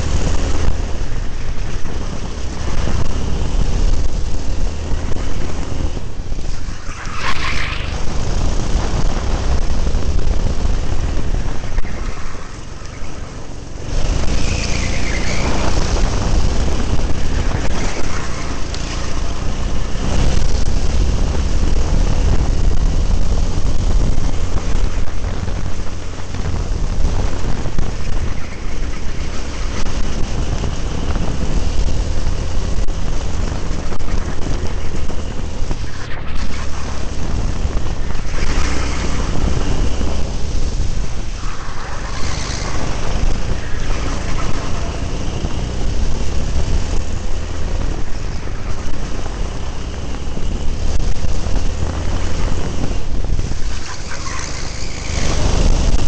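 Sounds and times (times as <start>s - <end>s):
kart engine running hard: 0.0s - 56.0s
wind on microphone: 0.0s - 56.0s.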